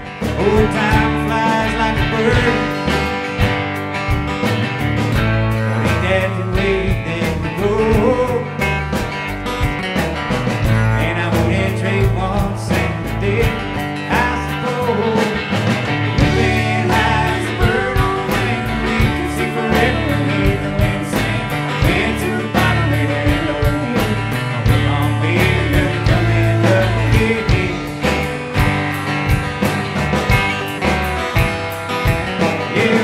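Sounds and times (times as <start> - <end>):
live country-rock band: 0.0 - 33.0.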